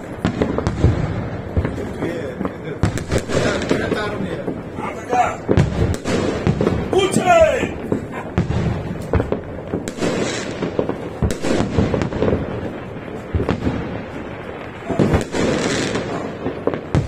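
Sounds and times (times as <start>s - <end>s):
fireworks bangs and booms: 0.0s - 17.0s
fireworks crackling and hissing: 0.0s - 17.0s.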